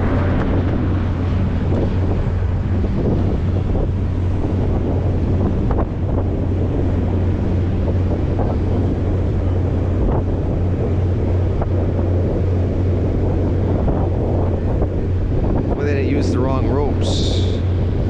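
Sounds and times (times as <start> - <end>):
boat engine drone: 0.0 - 18.0
water washing against hull: 0.0 - 18.0
wind buffeting microphone: 0.0 - 18.0.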